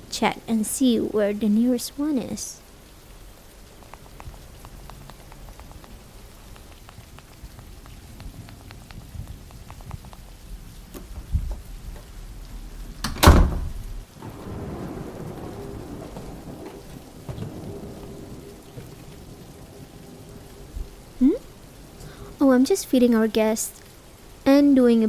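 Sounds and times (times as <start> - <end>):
steady rain: 0.0 - 25.0
thunder crack and rumble: 2.7 - 24.4.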